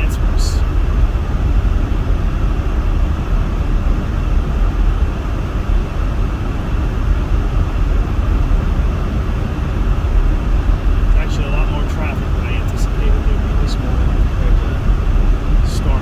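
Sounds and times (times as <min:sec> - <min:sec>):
road and engine rumble: 0:00.0 - 0:16.0.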